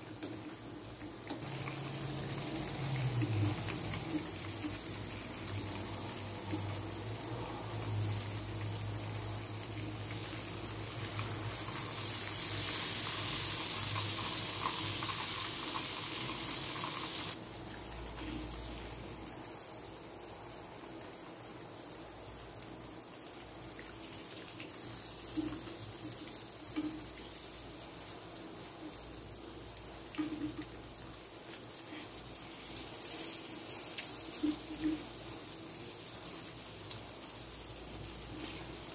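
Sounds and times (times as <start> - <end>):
chicken sizzling in frying oil: 0.0 - 38.9.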